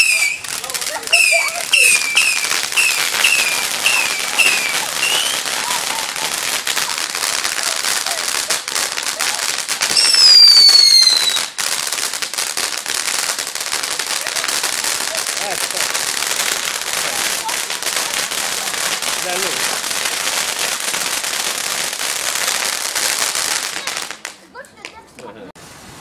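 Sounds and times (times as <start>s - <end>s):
firework whistles: 0.0s - 24.2s
fireworks crackling and popping: 0.0s - 26.0s.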